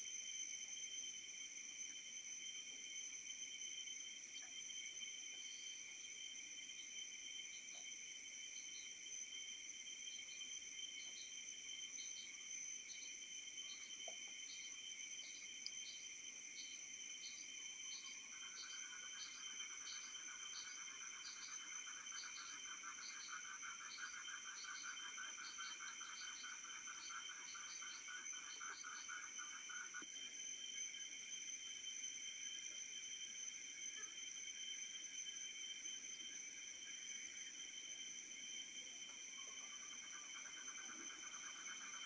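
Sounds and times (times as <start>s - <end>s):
cricket chirping: 0.0s - 42.0s
insects shrill high tones: 0.0s - 42.0s
low pulsing insect trill: 0.0s - 42.0s.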